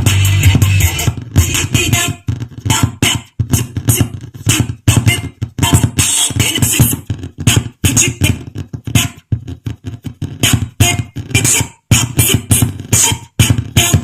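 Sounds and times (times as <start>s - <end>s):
music with beatboxing beat: 0.0s - 14.0s.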